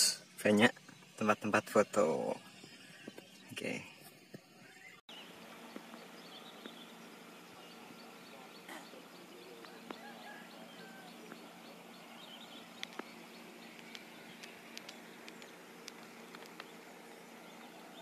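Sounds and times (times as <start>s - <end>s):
birds chirping: 0.0s - 18.0s
low steady hum: 0.0s - 18.0s.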